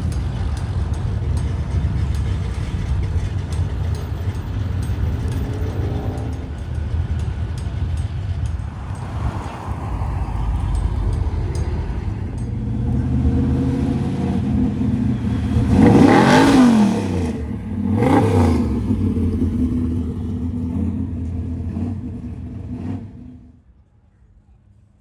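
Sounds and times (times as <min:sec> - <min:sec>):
engine revving: 0:00.0 - 0:23.6
car engines driving off: 0:00.0 - 0:23.7.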